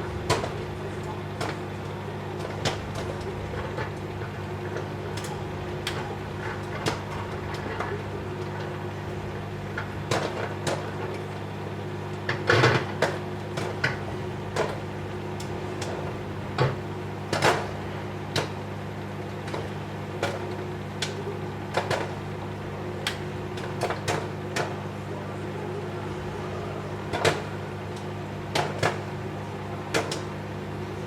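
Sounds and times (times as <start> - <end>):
microwave oven humming: 0.0 - 31.0
popcorn popping: 0.0 - 31.0.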